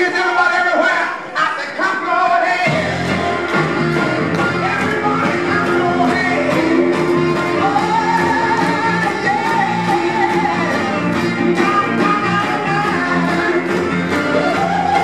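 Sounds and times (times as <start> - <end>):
person singing: 0.0 - 15.0
upbeat rhythm and blues dance music: 0.0 - 15.0.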